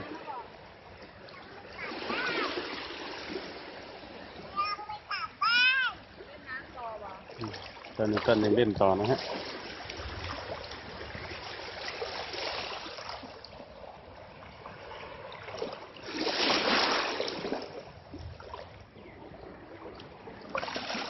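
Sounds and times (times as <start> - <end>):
small waves washing on sand: 0.0 - 21.0.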